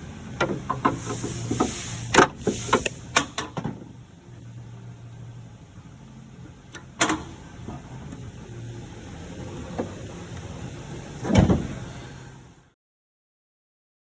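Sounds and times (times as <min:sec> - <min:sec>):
low mechanical hum: 0:00.0 - 0:12.8.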